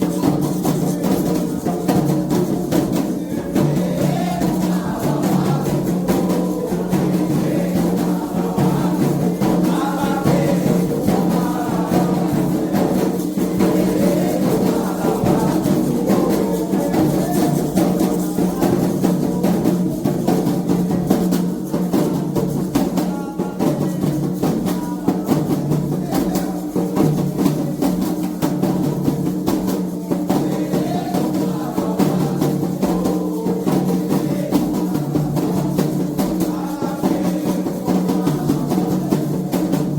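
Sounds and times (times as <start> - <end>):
hand drums playing driving rhythm: 0.0 - 39.9
voices singing a chant: 0.0 - 39.9.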